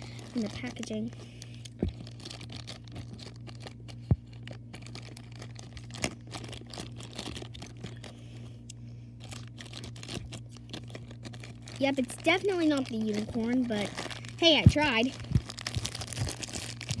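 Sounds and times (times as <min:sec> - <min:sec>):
plastic bag crinkling and tearing: 0:00.0 - 0:17.0.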